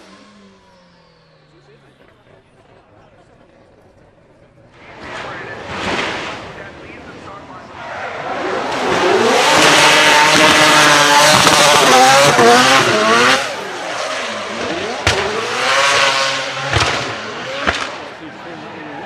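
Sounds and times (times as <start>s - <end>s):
rotary engine revving hard: 0.0s - 2.8s, 4.7s - 19.0s.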